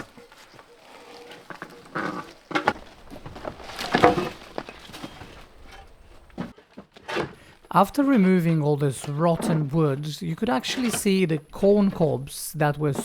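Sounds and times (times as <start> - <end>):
wooden boards cracking: 0.0 - 12.3.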